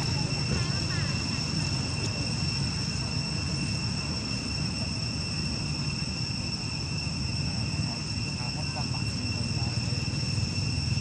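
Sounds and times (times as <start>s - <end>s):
insects droning in chorus: 0.0s - 11.0s
low rumbling noise: 0.0s - 11.0s.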